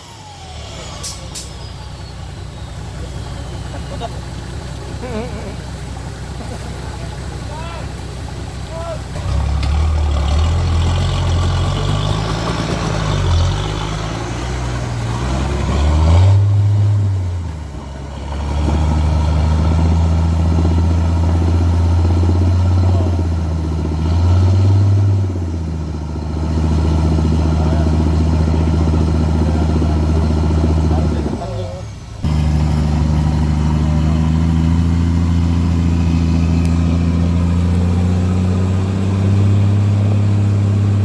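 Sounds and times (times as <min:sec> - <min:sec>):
off-road vehicle engine revving: 0:00.0 - 0:41.0.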